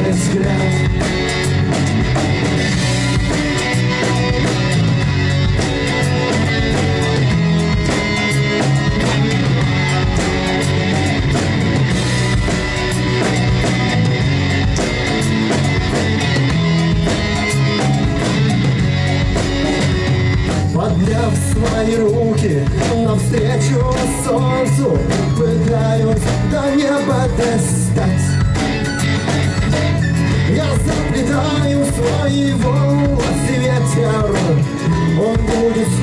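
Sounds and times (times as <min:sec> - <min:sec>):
rock band playing: 0:00.0 - 0:36.0.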